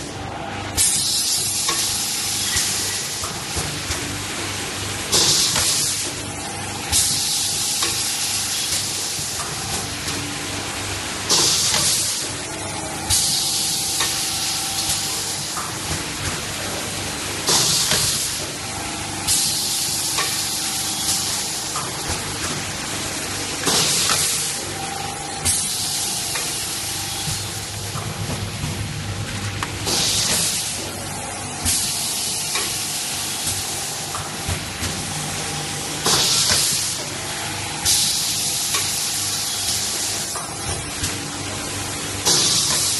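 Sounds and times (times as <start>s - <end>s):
steady machine hum: 0.0s - 42.3s.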